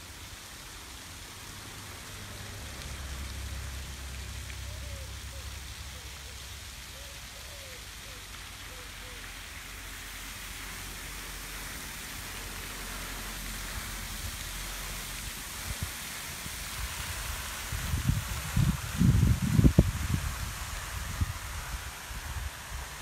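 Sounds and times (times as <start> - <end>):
fountain water splashing into pond: 0.0 - 23.0.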